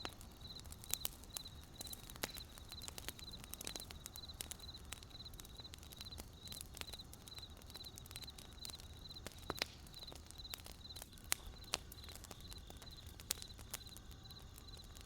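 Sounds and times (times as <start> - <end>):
campfire crackling: 0.0 - 15.0
cricket chirping: 0.0 - 15.0.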